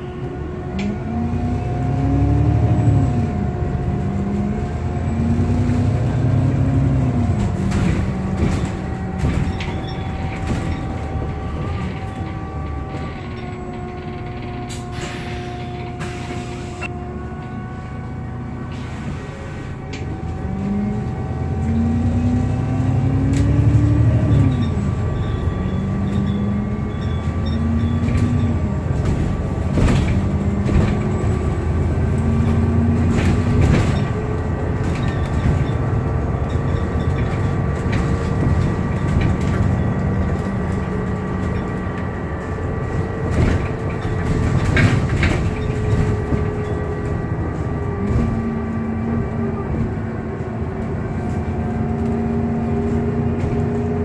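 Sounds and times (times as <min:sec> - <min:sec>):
bus engine accelerating: 0:00.0 - 0:54.0.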